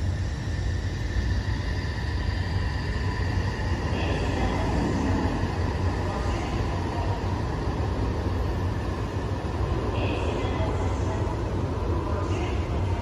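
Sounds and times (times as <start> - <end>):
train pulling out rumbling: 0.0 - 13.0.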